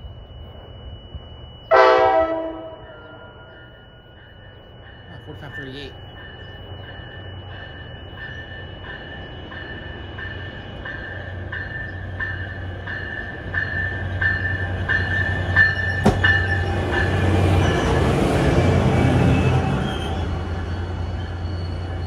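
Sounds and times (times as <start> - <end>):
locomotive bell ringing: 0.0 - 22.0
rail noise: 0.0 - 22.0.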